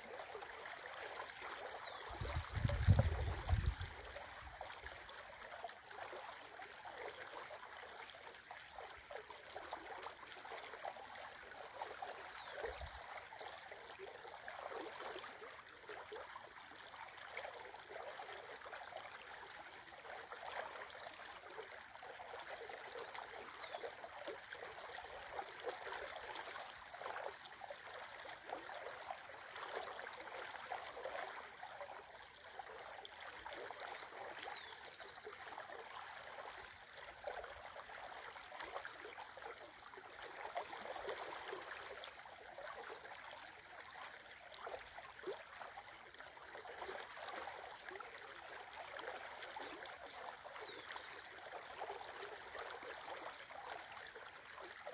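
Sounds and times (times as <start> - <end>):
river rippling and gurgling: 0.0 - 54.9.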